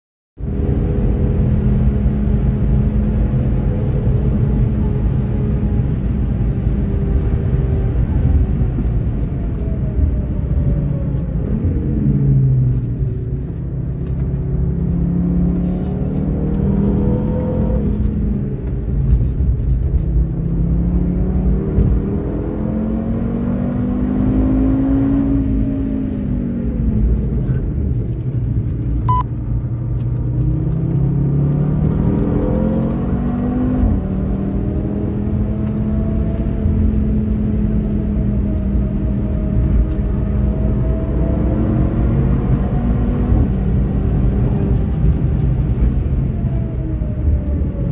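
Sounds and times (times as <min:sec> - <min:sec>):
car engine revving at speed: 0:00.4 - 0:47.9.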